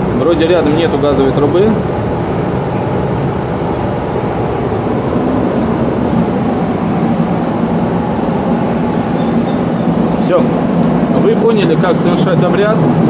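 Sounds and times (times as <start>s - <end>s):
city street traffic noise: 0.0s - 13.0s
low hum: 0.0s - 13.0s.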